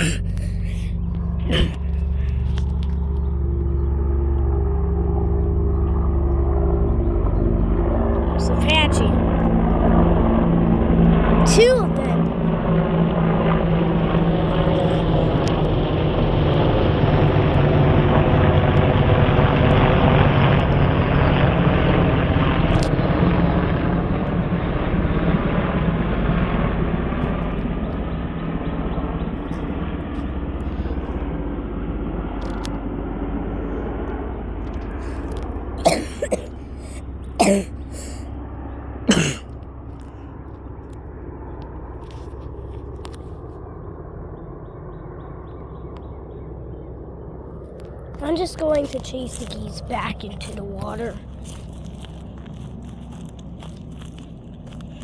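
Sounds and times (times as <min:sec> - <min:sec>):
helicopter rotors droning: 0:00.0 - 0:55.0.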